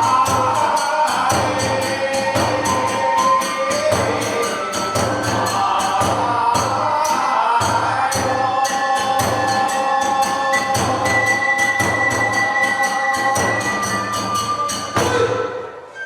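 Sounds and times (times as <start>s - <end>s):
jingling hand cymbals: 0.0s - 15.5s
drum beating: 0.0s - 15.7s.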